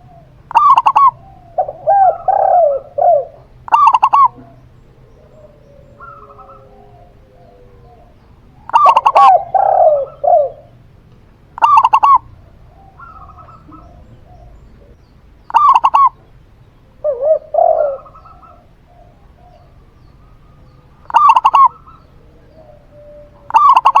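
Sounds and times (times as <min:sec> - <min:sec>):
high rapid dove cooing: 0:00.0 - 0:10.9, 0:11.6 - 0:24.0
low dove coo: 0:00.0 - 0:10.9, 0:11.6 - 0:24.0.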